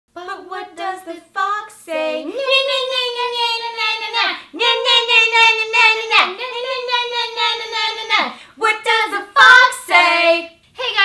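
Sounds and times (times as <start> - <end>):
women singing in high voices: 0.1 - 11.0.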